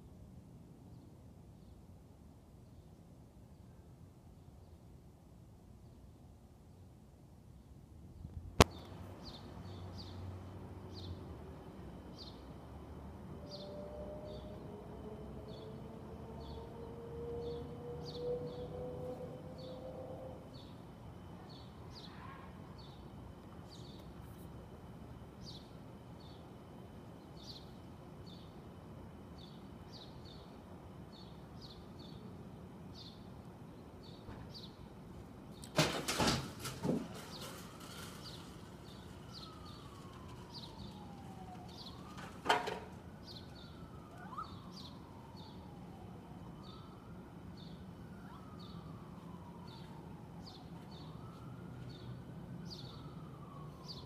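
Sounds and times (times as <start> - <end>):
faint siren wailing: 8.8 - 35.4, 37.1 - 54.0.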